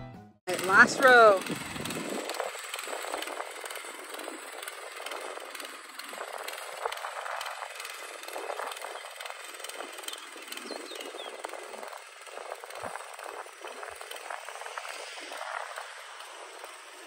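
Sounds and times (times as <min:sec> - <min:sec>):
cultivator engine running: 0:00.5 - 0:17.0.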